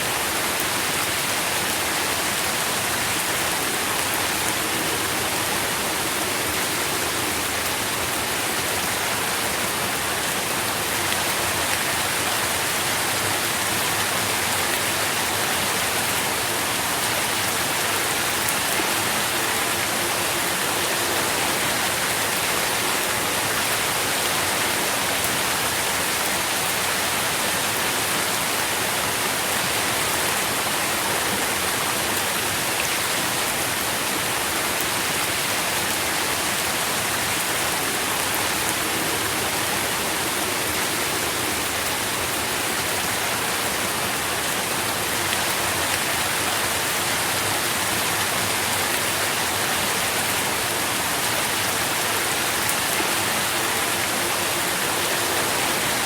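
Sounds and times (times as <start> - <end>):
dense rainfall: 0.0 - 56.0.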